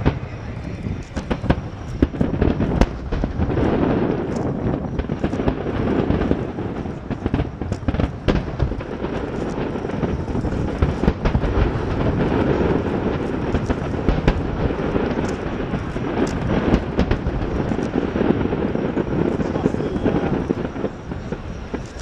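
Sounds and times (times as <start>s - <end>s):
fireworks rumbling: 0.0s - 22.0s
sharp firework cracks: 0.0s - 22.0s.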